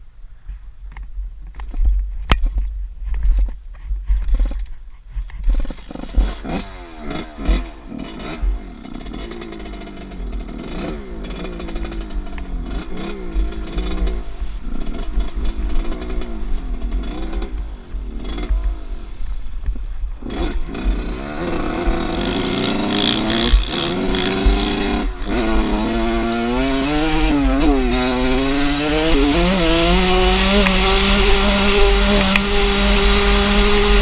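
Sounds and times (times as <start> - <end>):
motorcycle engine revving: 5.5 - 34.0.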